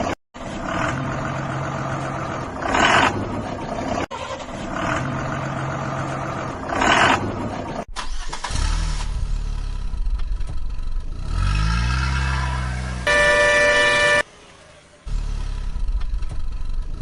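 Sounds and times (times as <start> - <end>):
deeper engine revving: 0.4 - 14.2.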